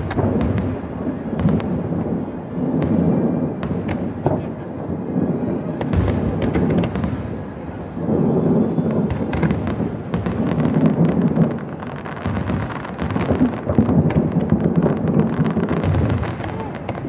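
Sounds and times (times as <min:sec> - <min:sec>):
fireworks booming: 0:00.0 - 0:17.0
fireworks crackles: 0:00.0 - 0:17.0.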